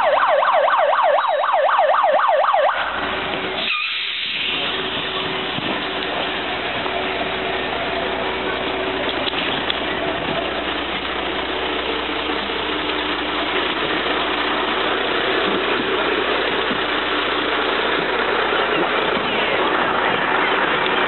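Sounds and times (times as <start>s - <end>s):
fire truck engine idling: 0.0s - 21.0s.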